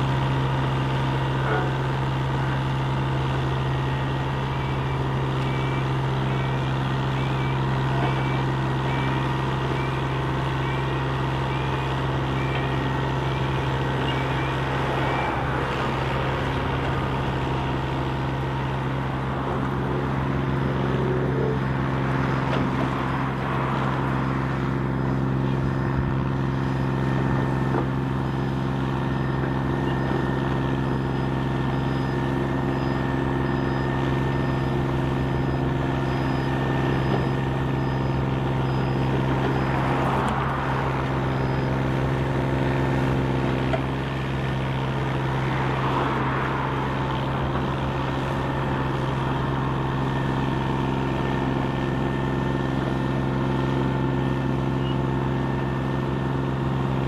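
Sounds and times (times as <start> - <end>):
diesel engine drone: 0.0 - 57.0
faint high-pitched beeping: 2.6 - 19.0, 22.8 - 56.0.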